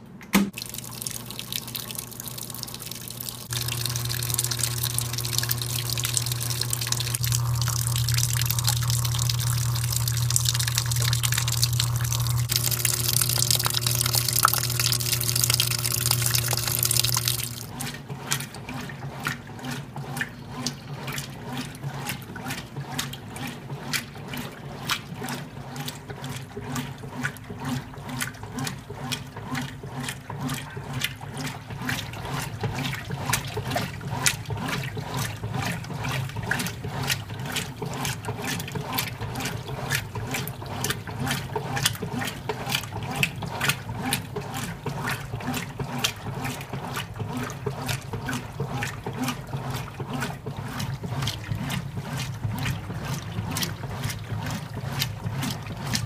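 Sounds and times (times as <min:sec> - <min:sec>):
washing machine motor hum: 0:00.0 - 0:56.0
water swishing and splashing: 0:00.4 - 0:56.0.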